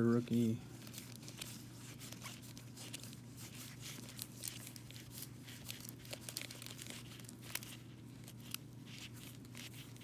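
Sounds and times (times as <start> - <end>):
plastic card sleeves crinkling: 0.1 - 10.0.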